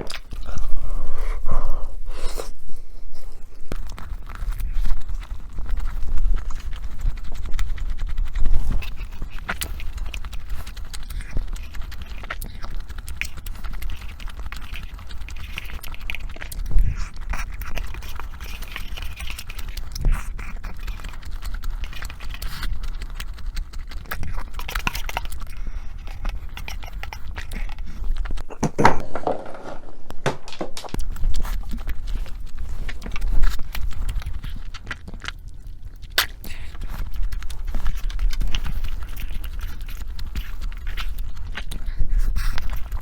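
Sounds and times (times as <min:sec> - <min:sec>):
wet chewing: 0:00.0 - 0:29.0, 0:30.9 - 0:43.0.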